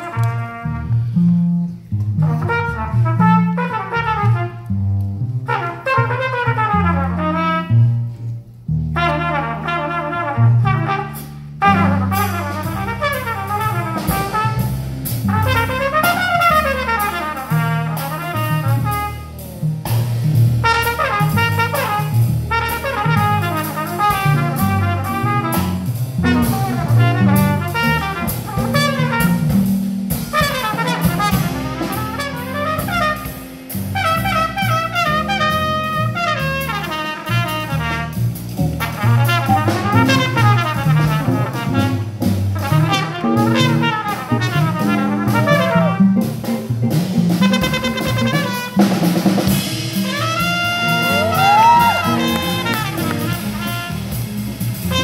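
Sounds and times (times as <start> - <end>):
trumpet soloing: 0.0 - 1.2, 2.2 - 4.8, 5.4 - 8.2, 9.0 - 19.6, 20.6 - 46.7, 47.3 - 55.0
walking upright bass: 0.0 - 55.0
cymbals and drums: 9.0 - 55.0.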